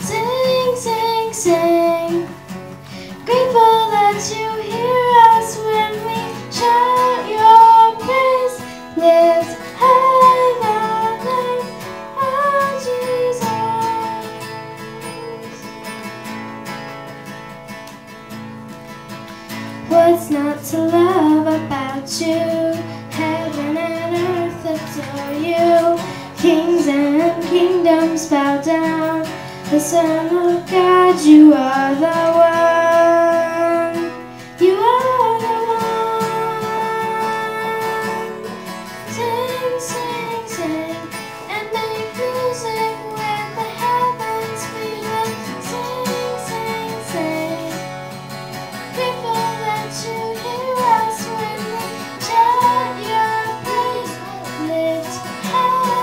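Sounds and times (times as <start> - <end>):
girl singing into microphone: 0.0 - 16.0, 19.6 - 56.0
acoustic guitar: 0.0 - 56.0.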